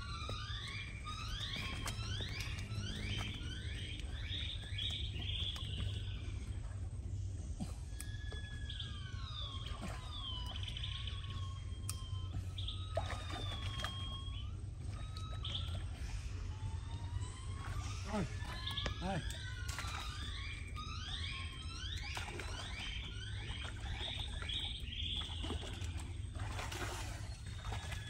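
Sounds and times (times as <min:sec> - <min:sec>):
birds whistling: 0:00.0 - 0:28.0
steady low hum: 0:00.0 - 0:28.0.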